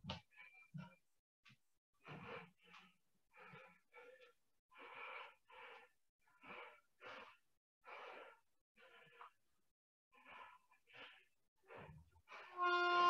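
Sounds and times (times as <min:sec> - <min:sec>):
man breathing hard and fast: 0:02.0 - 0:12.6.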